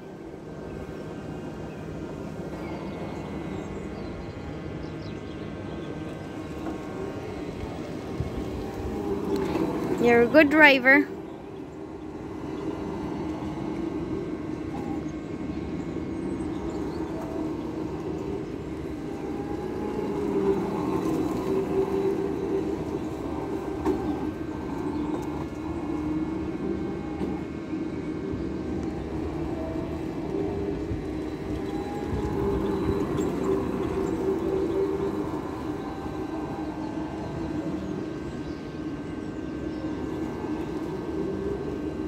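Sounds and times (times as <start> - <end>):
go-kart motor running: 0.0 - 42.0.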